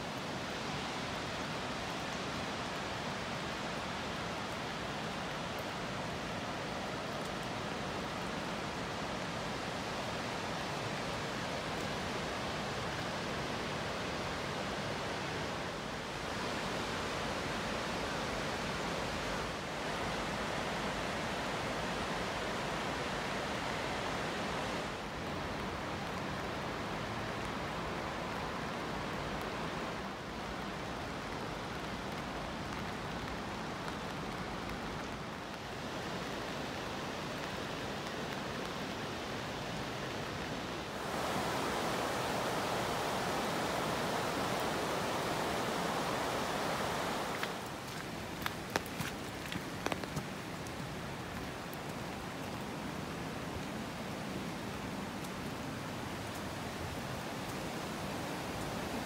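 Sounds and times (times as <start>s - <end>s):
river water pouring over a weir: 0.0s - 59.0s.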